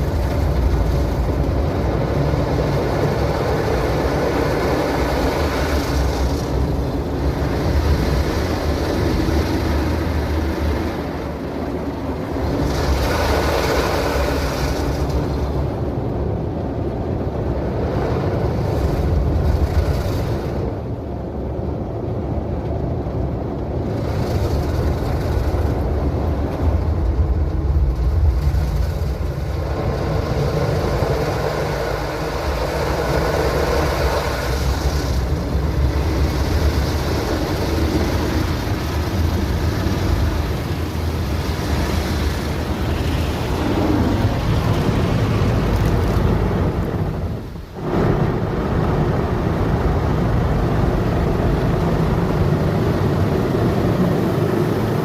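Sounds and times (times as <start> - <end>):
car wash machinery rumbling: 0.0 - 55.0.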